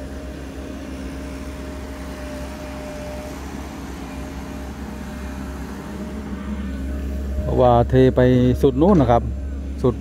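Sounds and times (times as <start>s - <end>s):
excavator engine drone: 0.0s - 10.0s.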